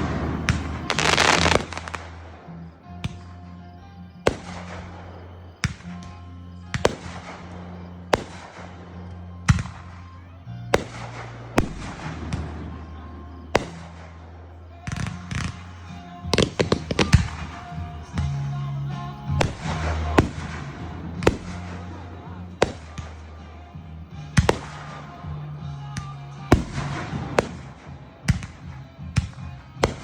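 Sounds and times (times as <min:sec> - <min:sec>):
background music: 0:00.0 - 0:30.0
fireworks bangs and crackle: 0:00.0 - 0:30.0.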